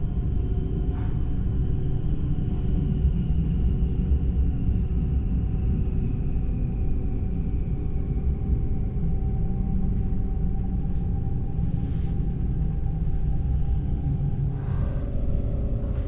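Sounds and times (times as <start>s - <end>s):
faint steady whine: 0.0s - 16.0s.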